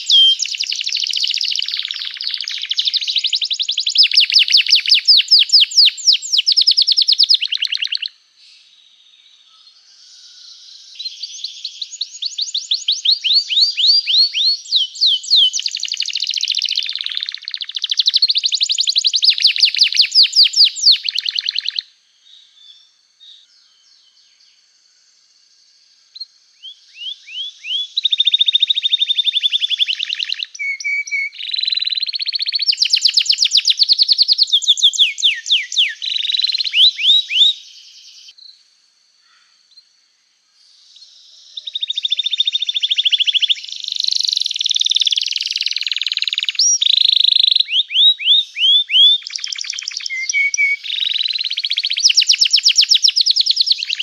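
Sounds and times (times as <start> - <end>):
canary singing trills: 0.0 - 8.2, 10.9 - 21.9, 26.2 - 38.3, 41.6 - 54.0.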